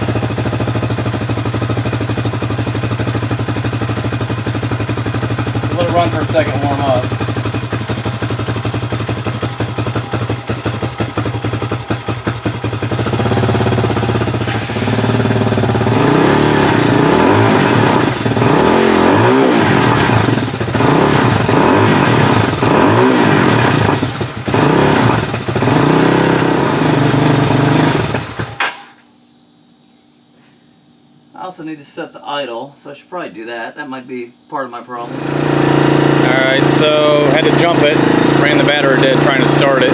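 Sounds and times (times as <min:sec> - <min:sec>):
motorcycle engine revving: 0:00.0 - 0:28.7, 0:35.0 - 0:39.9.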